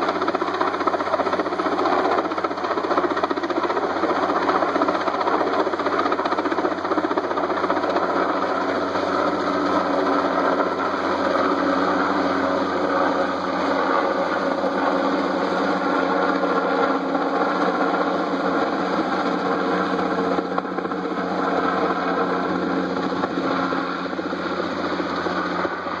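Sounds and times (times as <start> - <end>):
helicopter rotor chopping: 0.0 - 26.0.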